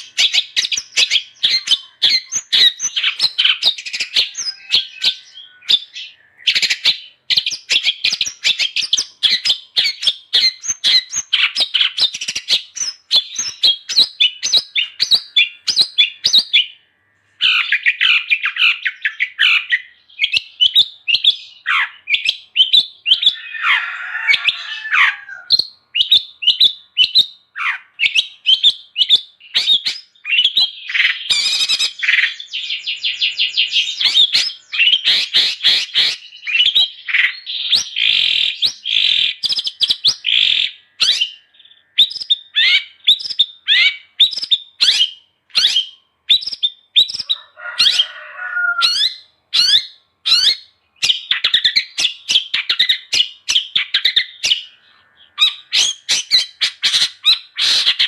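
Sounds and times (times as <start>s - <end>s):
bird harsh rasping calls: 0.0s - 16.8s, 17.4s - 58.0s
bird chattering song: 0.0s - 58.0s.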